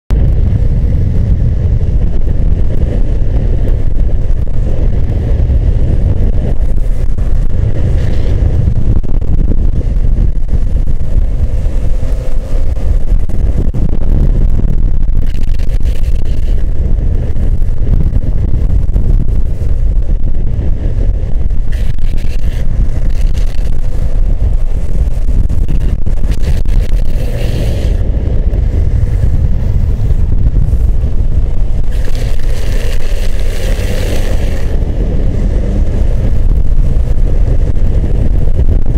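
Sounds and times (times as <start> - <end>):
wind rush on microphone: 0.1 - 38.9
skateboard wheels on asphalt: 0.2 - 38.9.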